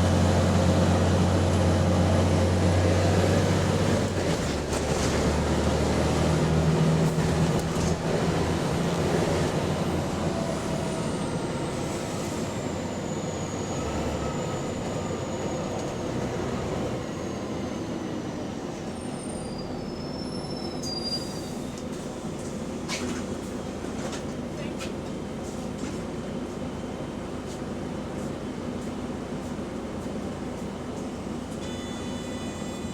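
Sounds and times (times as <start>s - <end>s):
bus engine running: 0.0s - 32.9s.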